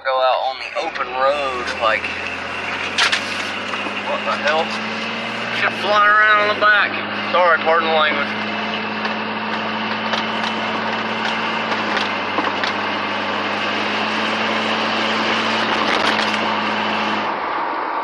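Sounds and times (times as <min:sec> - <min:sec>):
engine drone: 0:00.0 - 0:18.0
road and wind noise: 0:00.0 - 0:18.0
muffler rattling: 0:00.4 - 0:17.3.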